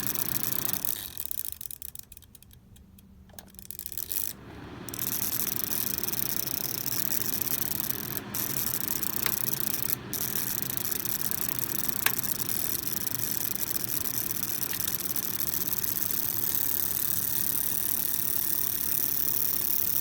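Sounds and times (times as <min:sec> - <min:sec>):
light clicks: 0:00.0 - 0:20.0
space heater fan rushing: 0:00.0 - 0:20.0.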